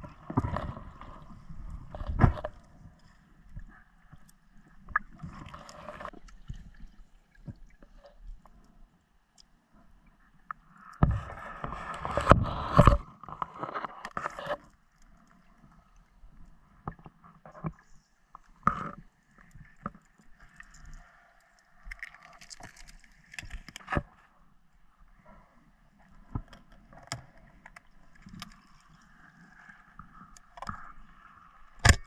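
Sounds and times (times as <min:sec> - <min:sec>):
underwater knocks and scrapes: 0:00.0 - 0:08.8, 0:10.4 - 0:15.8, 0:16.7 - 0:21.1, 0:21.8 - 0:24.3, 0:25.2 - 0:32.0.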